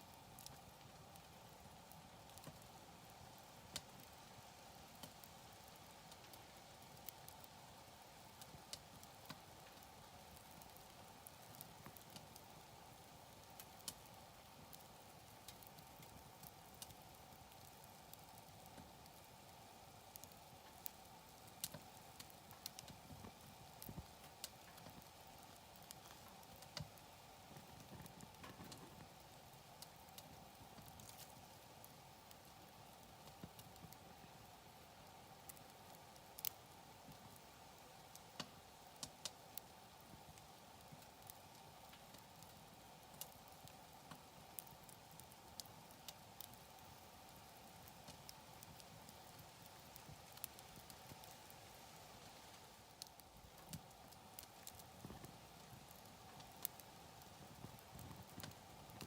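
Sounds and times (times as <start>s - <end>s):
faint steady background noise: 0.0s - 59.0s
faint steady hiss: 0.0s - 59.0s
wood fire crackling: 0.0s - 59.0s.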